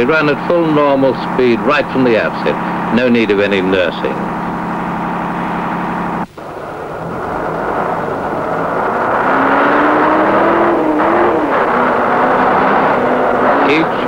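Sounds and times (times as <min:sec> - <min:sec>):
bus engine revving: 0:00.0 - 0:14.0.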